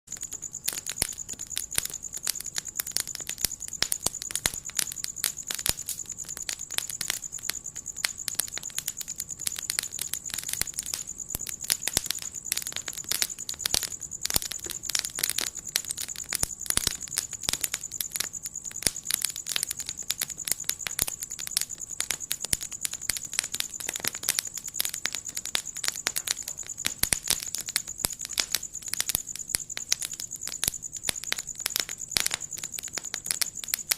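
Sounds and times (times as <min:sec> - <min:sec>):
wood fire crackling: 0:00.1 - 0:33.9.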